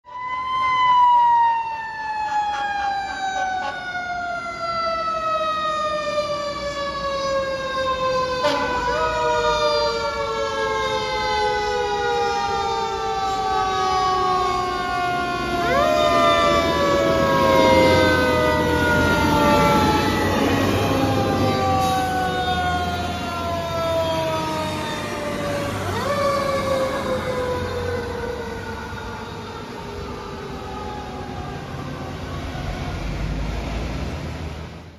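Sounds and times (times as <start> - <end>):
fire engine siren winding: 0.1 - 33.1
fire engine engine rumble: 0.2 - 34.9.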